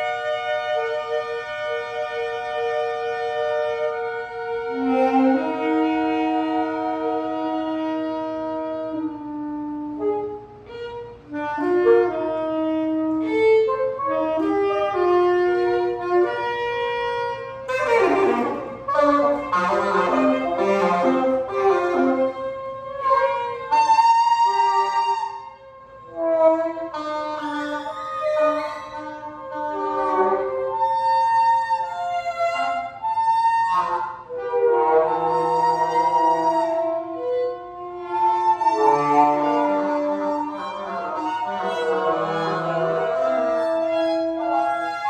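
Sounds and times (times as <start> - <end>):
free jazz saxophones: 0.0 - 45.0.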